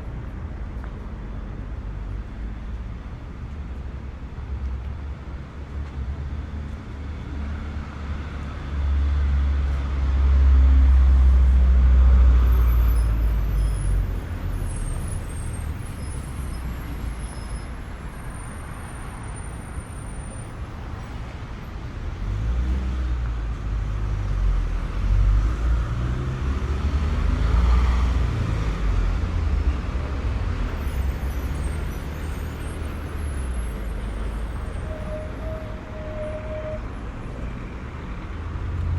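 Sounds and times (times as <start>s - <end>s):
road vehicles passing: 0.0s - 38.9s.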